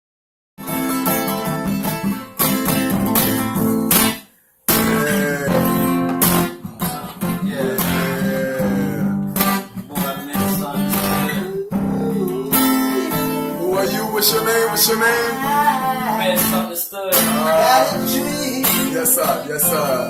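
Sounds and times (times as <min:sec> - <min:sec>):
acoustic guitar music: 0:00.6 - 0:20.0.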